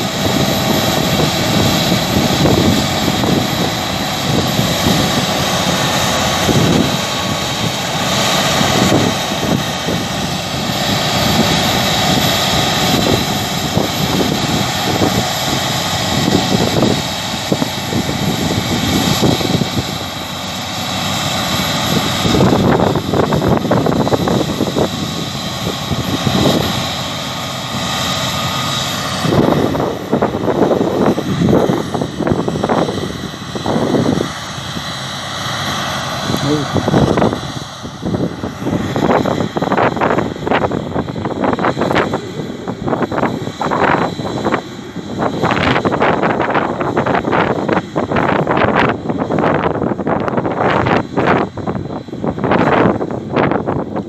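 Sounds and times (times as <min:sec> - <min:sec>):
combine harvester drone: 0:00.0 - 0:54.0
low rumbles: 0:00.0 - 0:54.0.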